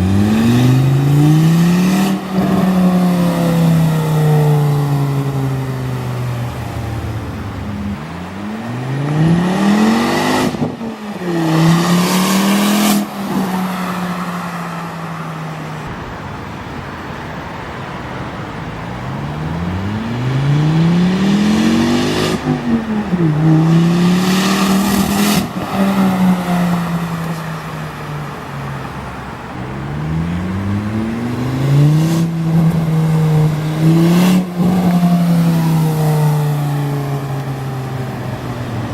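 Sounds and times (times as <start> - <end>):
car engine accelerating hard: 0.0 - 16.5, 18.3 - 38.9.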